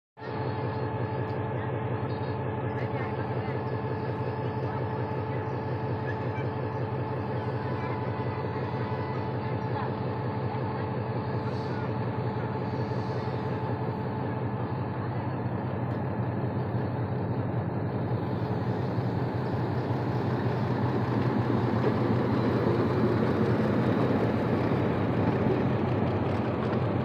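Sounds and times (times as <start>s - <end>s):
locomotive engine humming: 0.2s - 27.0s
rumble of moving train coaches: 0.2s - 27.0s.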